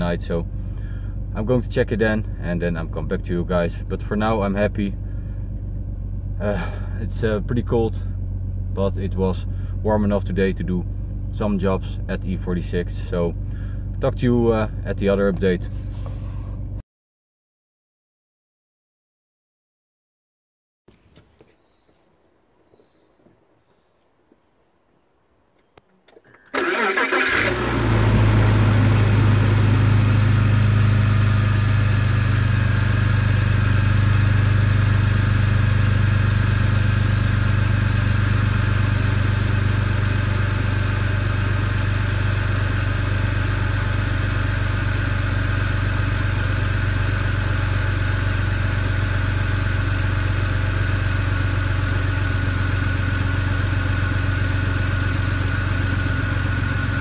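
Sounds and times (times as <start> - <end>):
car engine idling: 0.0 - 16.8, 25.6 - 57.0.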